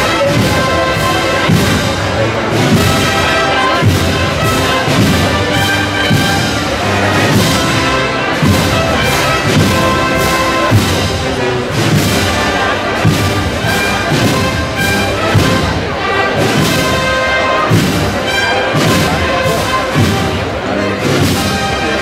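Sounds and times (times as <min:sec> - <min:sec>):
brass band playing a march: 0:00.0 - 0:22.0.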